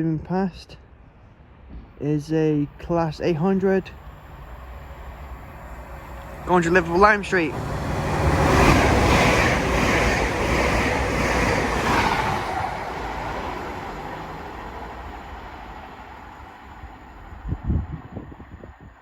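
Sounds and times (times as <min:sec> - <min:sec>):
train passing at speed: 0:01.0 - 0:19.0.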